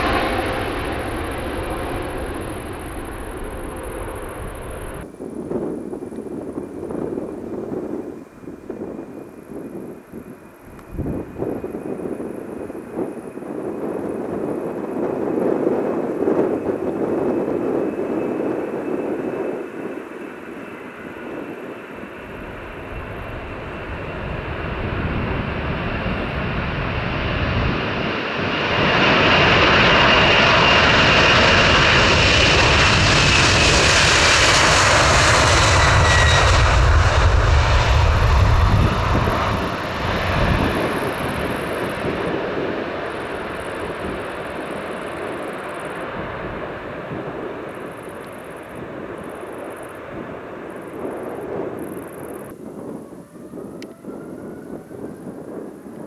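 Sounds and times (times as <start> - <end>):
jet airliner engines passing: 0.0 - 56.0.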